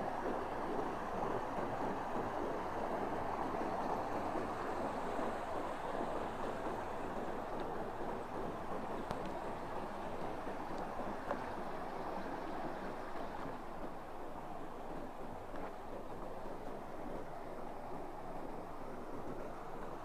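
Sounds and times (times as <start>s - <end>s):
stream flowing: 0.0s - 20.0s.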